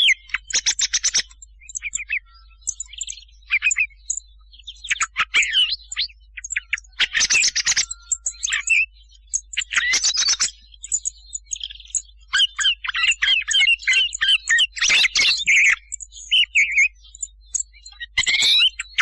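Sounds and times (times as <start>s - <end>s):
thrush chirping and whistling: 0.0s - 19.0s.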